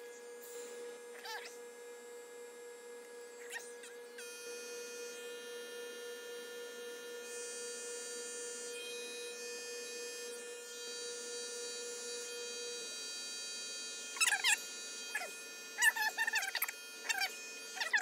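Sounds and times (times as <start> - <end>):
airbrush compressor humming: 0.0 - 18.0.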